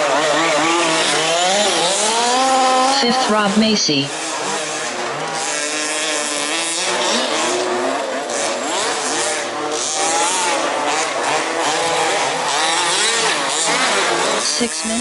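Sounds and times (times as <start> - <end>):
rc car engines revving: 0.0 - 15.0.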